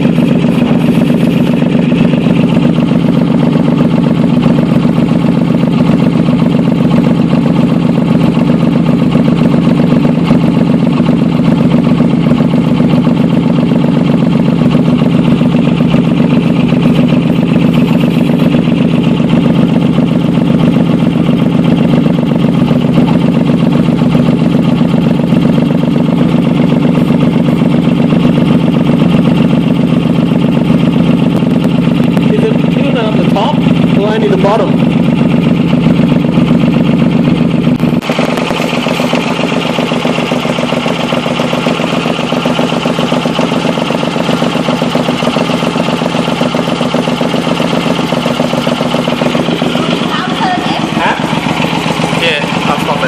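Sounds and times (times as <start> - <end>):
engine idling with pulsing exhaust: 0.0 - 53.0.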